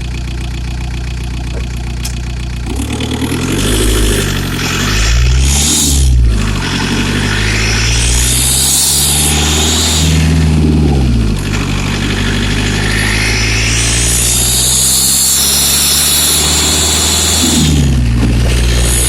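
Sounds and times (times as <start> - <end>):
diesel engine from inside car: 0.0 - 19.0
high-pitched whine: 2.0 - 19.0.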